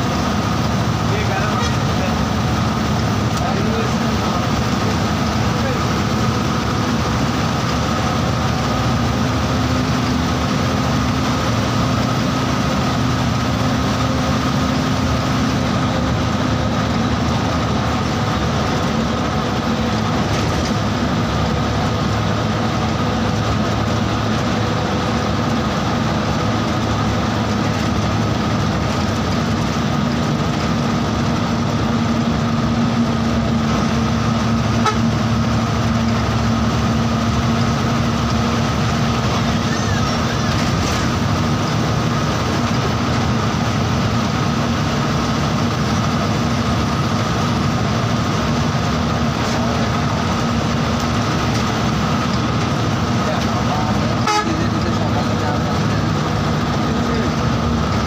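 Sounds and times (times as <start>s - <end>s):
bus engine drone: 0.0s - 58.0s
road and tyre rumble: 0.0s - 58.0s.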